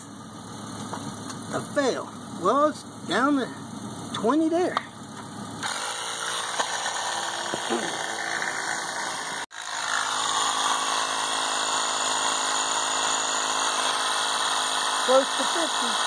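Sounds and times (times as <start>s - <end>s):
tire compressor buzzing: 0.0s - 16.0s.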